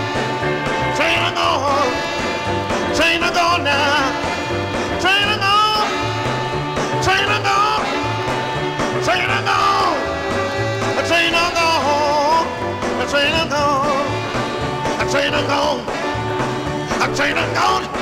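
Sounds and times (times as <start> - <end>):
bass line: 0.0 - 18.0
blues harmonica wailing: 0.0 - 18.0
drums: 0.0 - 18.0.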